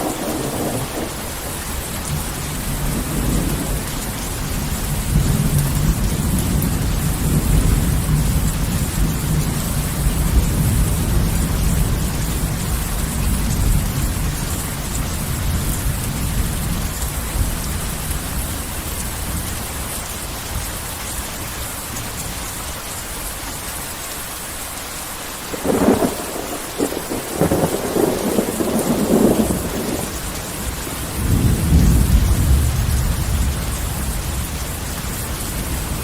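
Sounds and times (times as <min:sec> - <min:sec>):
sharp crackling thunder: 0:00.0 - 0:19.5, 0:25.5 - 0:36.0
low rumble of thunder: 0:00.0 - 0:19.8, 0:25.5 - 0:36.0
heavy rain hissing: 0:00.0 - 0:36.0.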